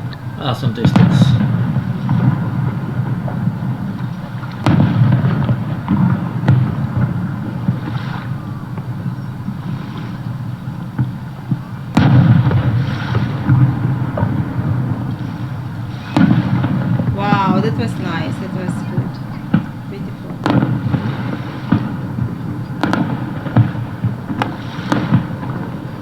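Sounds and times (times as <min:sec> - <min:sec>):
fireworks shells booming: 0:00.0 - 0:26.0.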